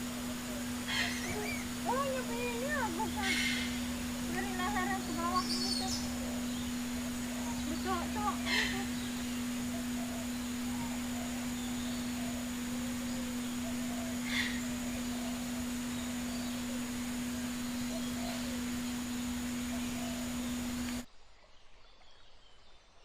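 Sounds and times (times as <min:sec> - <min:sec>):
even hiss: 0:00.0 - 0:21.1
steady low hum: 0:00.0 - 0:21.1.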